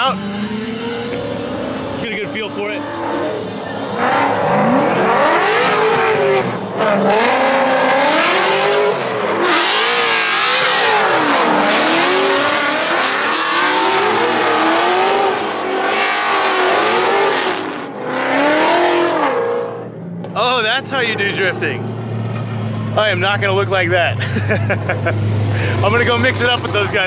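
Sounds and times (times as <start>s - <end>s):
car engine revving hard: 0.0s - 27.0s.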